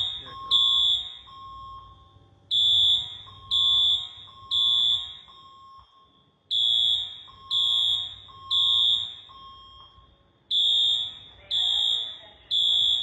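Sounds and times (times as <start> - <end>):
faint low alarm tone: 0.0 - 13.0
fire alarm beeps: 0.0 - 13.0.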